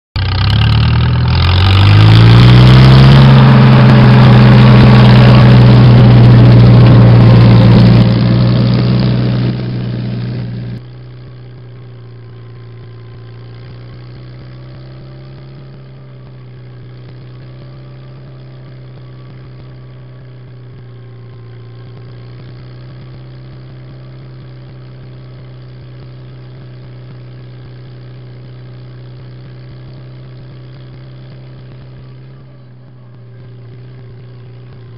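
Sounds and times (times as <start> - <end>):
tractor engine running quietly: 0.2 - 34.9
tractor engine under load: 0.2 - 34.9.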